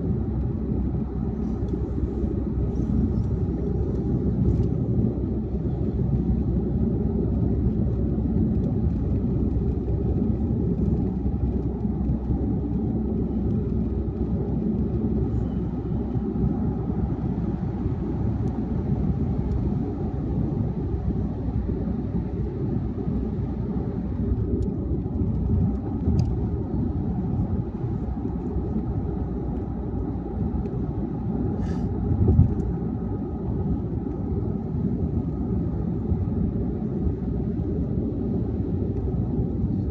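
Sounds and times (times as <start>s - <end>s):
car engine: 0.0s - 39.9s.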